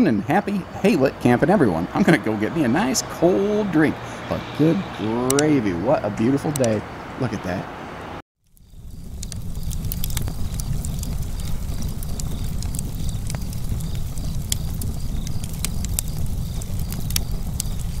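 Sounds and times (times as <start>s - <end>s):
wood fire crackling: 0.0s - 6.8s, 8.4s - 18.0s.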